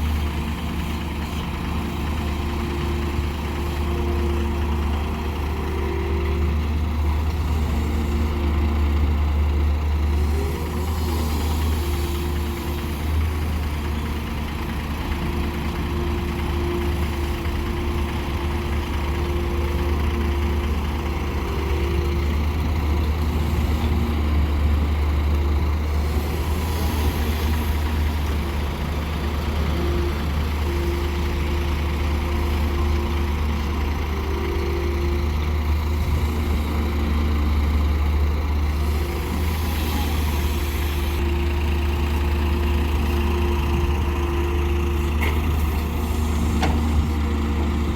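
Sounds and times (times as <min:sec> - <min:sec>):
heavy diesel engines droning: 0:00.0 - 0:47.9.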